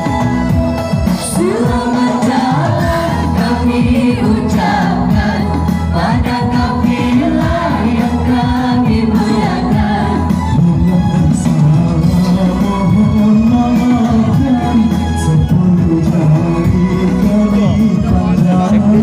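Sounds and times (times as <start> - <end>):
musical accompaniment: 0.0 - 19.0.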